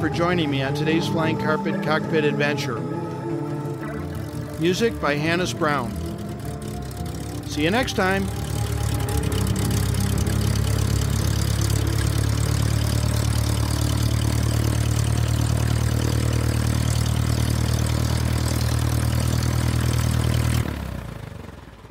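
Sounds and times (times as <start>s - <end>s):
light airplane engine drone: 0.0s - 21.9s.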